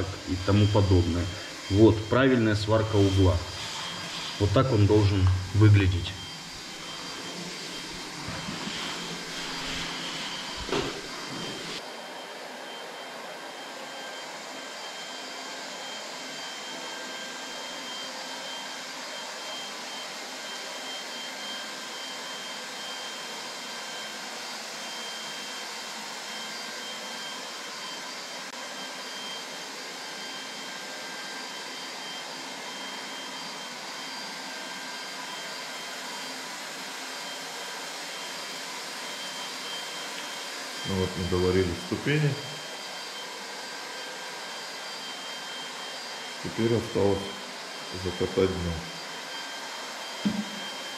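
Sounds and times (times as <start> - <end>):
electric blower running: 0.0 - 50.9.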